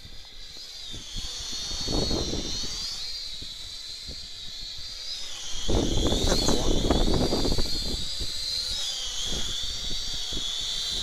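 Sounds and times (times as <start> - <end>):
wind rumbling on microphone: 0.0 - 4.9, 5.6 - 11.0
drone propellers whining: 0.0 - 11.0.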